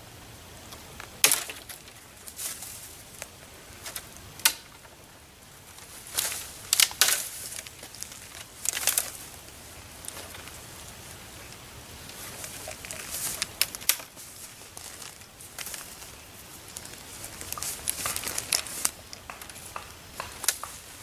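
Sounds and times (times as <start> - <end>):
dry branches snapping: 0.7 - 5.0, 5.7 - 21.0.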